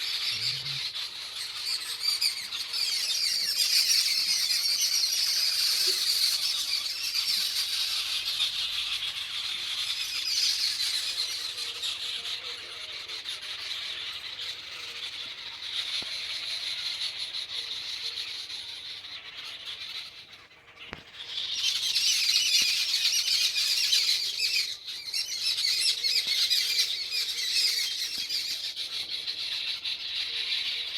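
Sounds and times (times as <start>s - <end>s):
flock of birds chattering and squawking: 0.0s - 30.9s.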